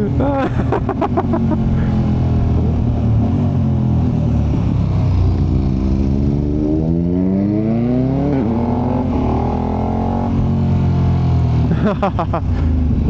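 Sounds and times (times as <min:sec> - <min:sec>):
motorcycle engine accelerating: 0:00.4 - 0:13.0.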